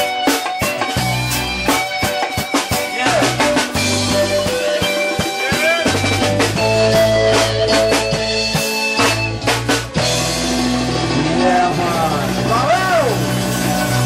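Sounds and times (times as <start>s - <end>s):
bass guitar: 0.0s - 14.0s
drums: 0.0s - 14.0s
electric guitar lead line: 0.0s - 14.0s.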